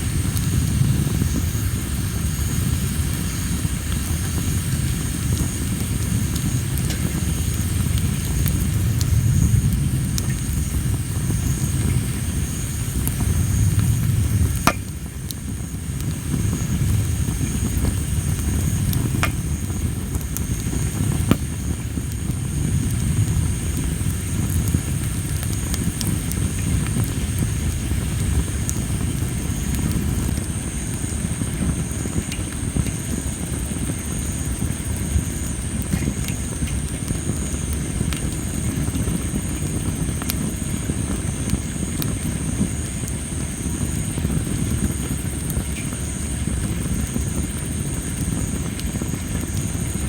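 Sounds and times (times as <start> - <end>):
insects trilling: 0.0 - 50.0
low rumble of flames: 0.0 - 50.0
wood popping in fire: 0.0 - 50.0.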